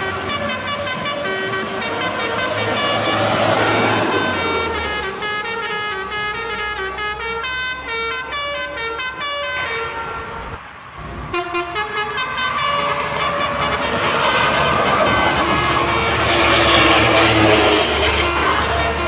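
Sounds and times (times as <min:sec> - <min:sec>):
musical air horn tune: 0:00.0 - 0:10.6, 0:11.3 - 0:19.0
bus engine running: 0:00.0 - 0:19.0.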